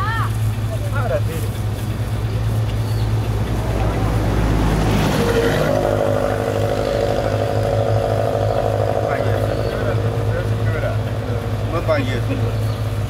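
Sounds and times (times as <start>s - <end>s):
pickup truck engine driving by: 0.0s - 13.0s
low drone: 2.4s - 13.0s.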